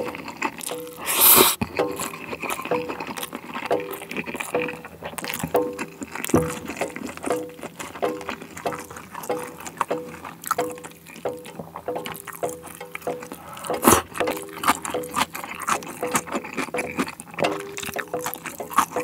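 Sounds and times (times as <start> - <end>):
close chewing: 0.0 - 19.0
sauce bubbling and popping: 0.0 - 19.0.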